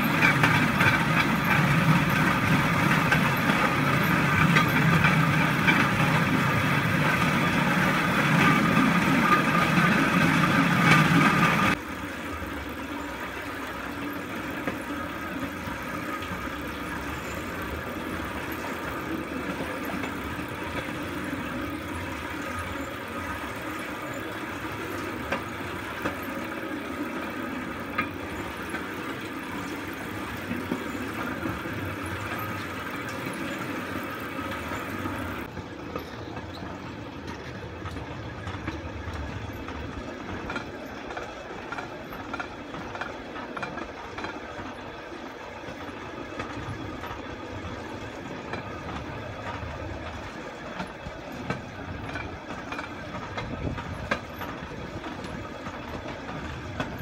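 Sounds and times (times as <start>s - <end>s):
wheels rolling on railroad track: 0.0s - 57.0s.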